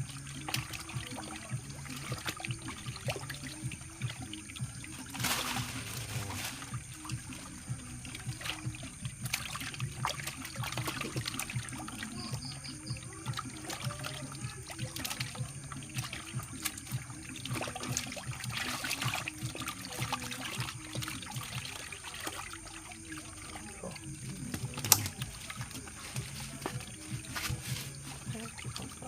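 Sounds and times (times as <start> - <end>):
water trickling and splashing: 0.0 - 29.0.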